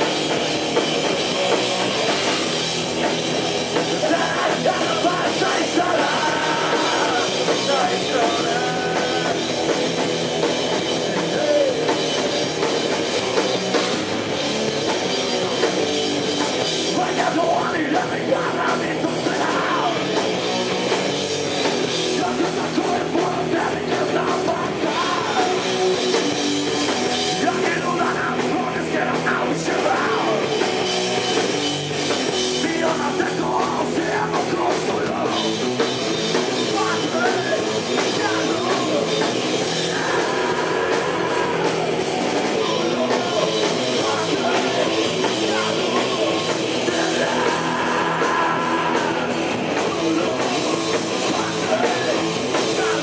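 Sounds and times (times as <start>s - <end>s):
drum kit: 0.0s - 53.0s
electric guitars: 0.0s - 53.0s.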